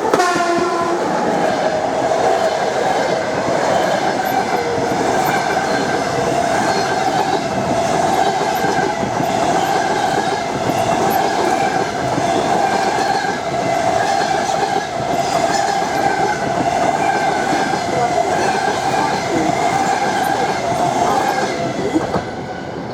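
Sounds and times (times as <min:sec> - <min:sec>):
train wheels clattering on rails: 0:00.0 - 0:22.9
steady ringing tone from wheels: 0:00.6 - 0:22.9.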